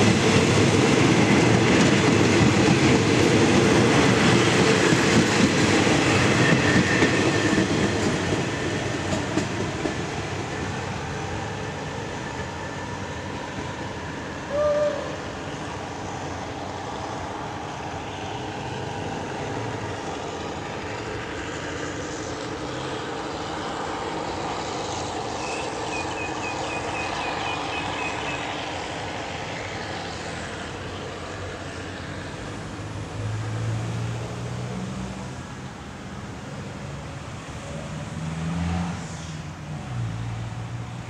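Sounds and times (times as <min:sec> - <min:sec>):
diesel train rumbling: 0:00.0 - 0:41.0.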